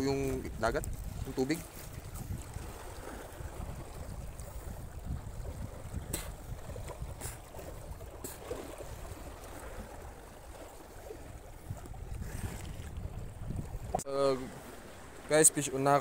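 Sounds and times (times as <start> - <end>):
faint water movement: 0.0 - 16.0
wind rumbling on microphone: 0.0 - 16.0.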